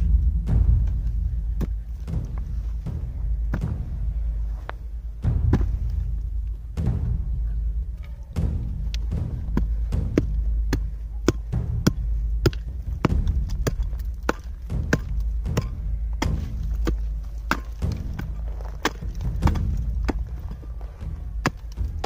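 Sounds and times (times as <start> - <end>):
hand pick striking hard earth: 0.0 - 22.0.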